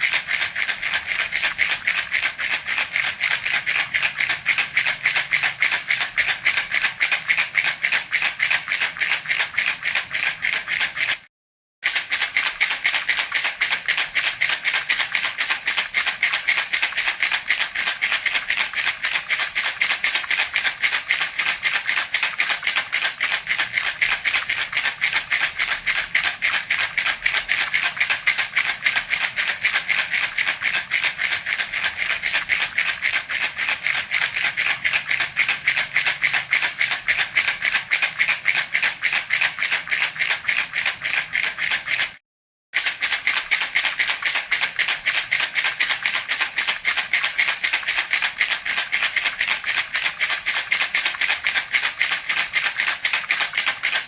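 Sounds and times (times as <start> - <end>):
baby rattle shaking: 0.0 - 42.2, 42.8 - 54.0.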